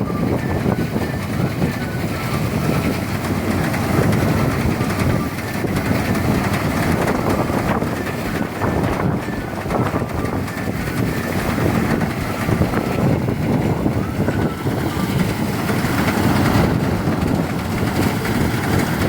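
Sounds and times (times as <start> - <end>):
thresher clattering and rumbling: 0.0 - 19.0.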